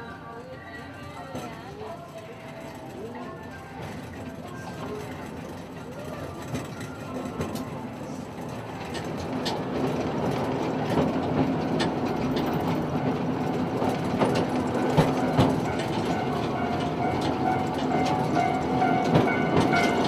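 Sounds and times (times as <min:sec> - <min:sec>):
steam locomotive running past: 0:01.4 - 0:20.0.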